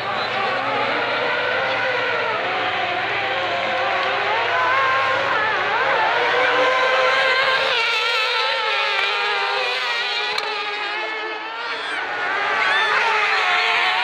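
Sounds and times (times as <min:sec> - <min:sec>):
racing buggy engines revving: 0:00.0 - 0:14.0.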